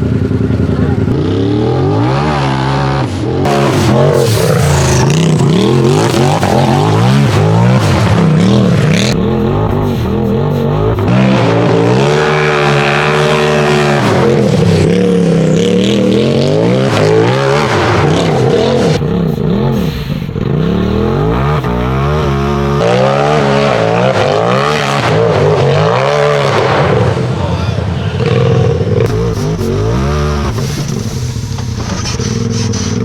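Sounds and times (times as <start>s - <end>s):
buggy engine revving: 0.0s - 33.0s.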